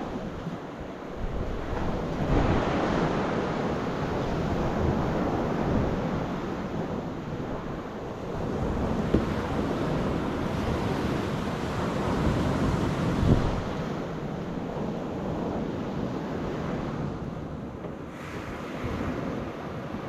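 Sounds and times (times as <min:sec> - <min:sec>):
surf washing on rocky shore: 0:00.0 - 0:20.0
wind buffeting microphone: 0:00.0 - 0:20.0.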